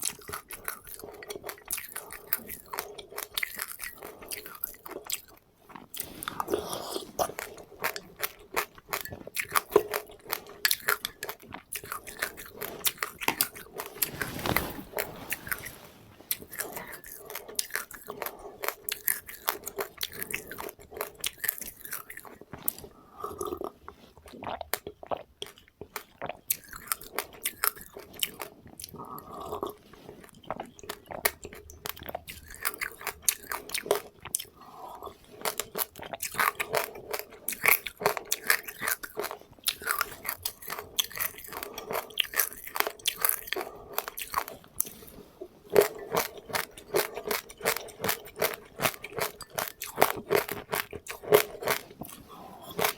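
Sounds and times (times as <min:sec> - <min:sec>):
chewing crunchy seeds: 0:00.0 - 0:45.1, 0:45.7 - 0:52.9.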